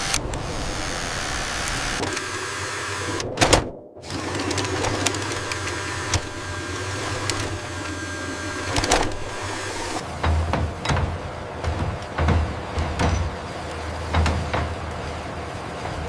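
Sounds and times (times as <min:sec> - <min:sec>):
machine whirring and humming: 0:00.0 - 0:16.0
clicks and knocks: 0:01.6 - 0:14.9.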